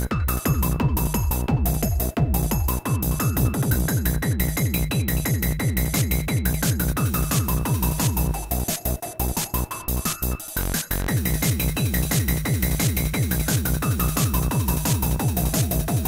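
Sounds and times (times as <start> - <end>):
falling-pitch bass notes: 0.0 - 16.0
techno beat: 0.0 - 16.0.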